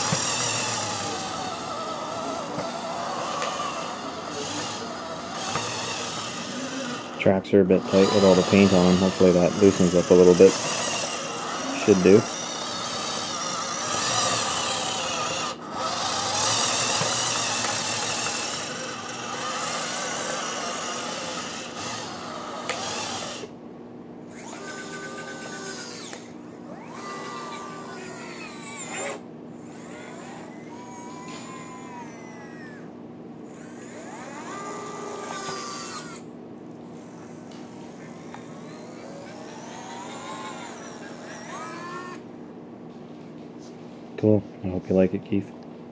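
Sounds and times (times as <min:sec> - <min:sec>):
electric motors whining: 0:00.0 - 0:23.6, 0:24.2 - 0:42.6.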